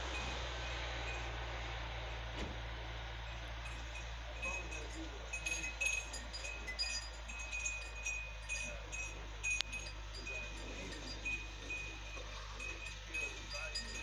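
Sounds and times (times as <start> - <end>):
metal tube wind chime tinkling: 0.0 - 1.3, 3.3 - 14.0
low steady hum: 0.0 - 14.0.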